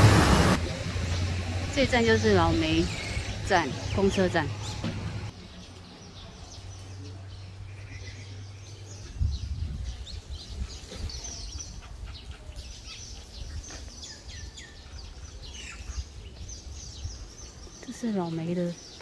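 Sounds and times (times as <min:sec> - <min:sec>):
small birds chirping: 0:01.1 - 0:19.0.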